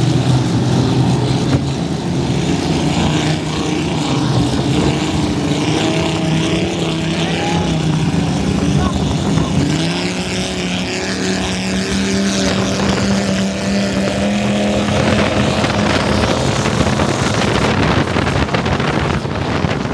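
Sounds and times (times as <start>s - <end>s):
powerboat engines running hard: 0.0s - 19.9s
wind and water rushing: 0.0s - 19.9s.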